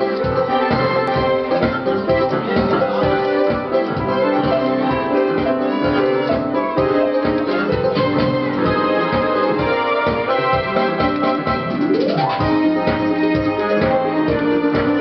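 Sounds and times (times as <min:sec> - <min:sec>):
electronic keyboard piano duet: 0:00.0 - 0:15.0.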